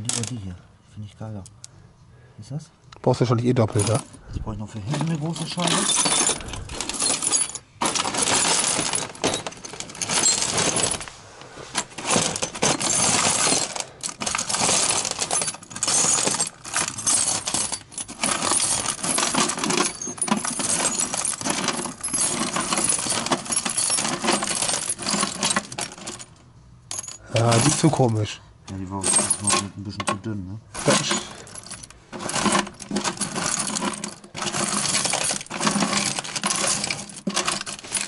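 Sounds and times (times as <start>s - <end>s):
hands rummaging through metal screws: 0.0s - 0.5s, 3.6s - 38.0s.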